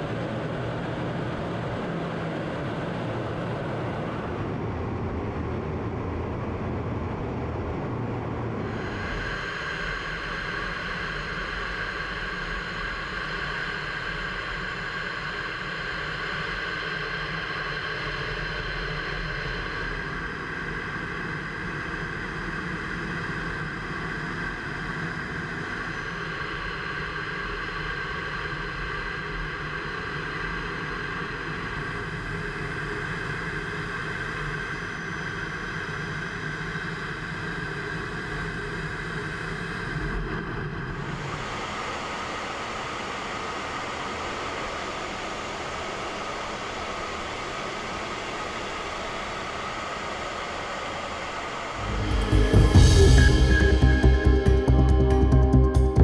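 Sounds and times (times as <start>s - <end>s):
jet engine drone: 0.0s - 56.0s
steady whining tones: 0.0s - 56.0s.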